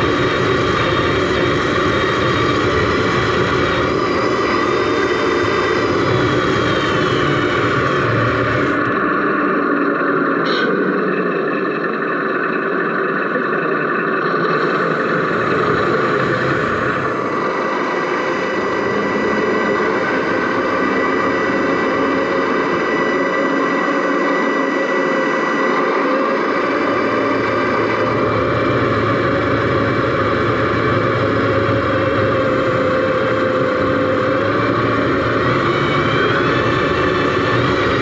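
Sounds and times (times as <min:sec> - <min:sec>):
model truck engine running: 0:00.0 - 0:38.0.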